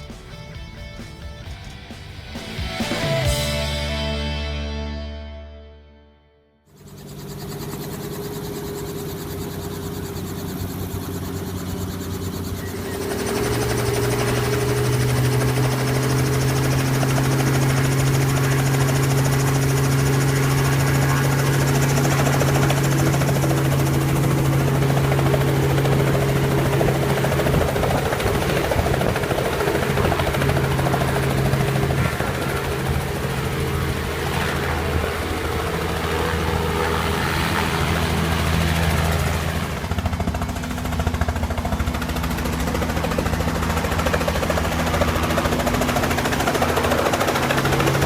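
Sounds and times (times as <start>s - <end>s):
helicopter engine and rotor: 6.7s - 48.0s.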